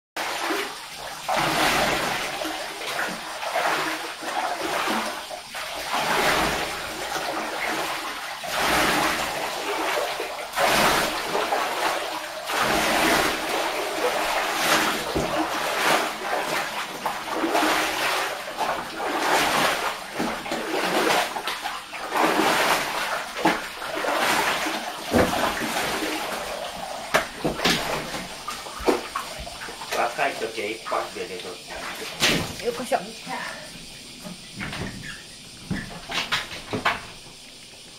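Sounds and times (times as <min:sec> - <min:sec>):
bathwater sloshing: 0:00.2 - 0:37.9
water poured and splashing: 0:00.2 - 0:37.9.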